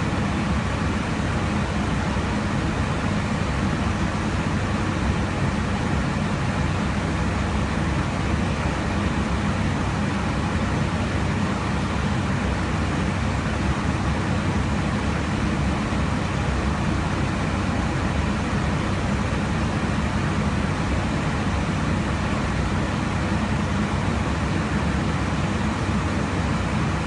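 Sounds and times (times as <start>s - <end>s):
aircraft cabin noise: 0.0s - 27.0s.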